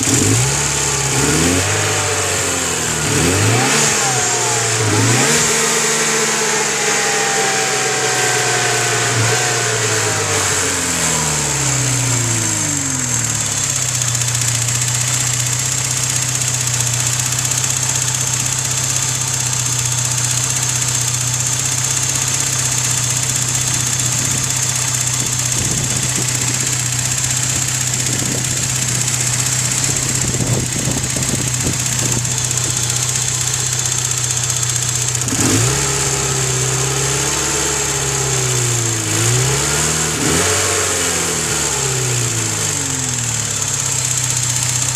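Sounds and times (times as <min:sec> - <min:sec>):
high-pitched turbo whine: 0:00.0 - 0:14.8, 0:19.2 - 0:43.9
car engine idling: 0:00.0 - 0:44.9.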